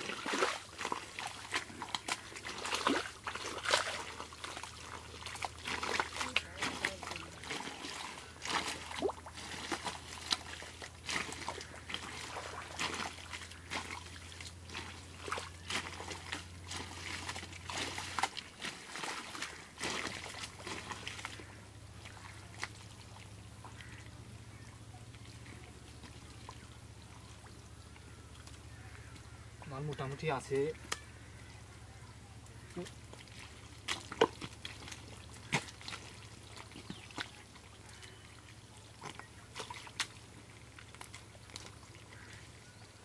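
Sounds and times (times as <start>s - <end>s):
hands squelching in wet mud: 0.0s - 31.4s, 32.3s - 43.0s.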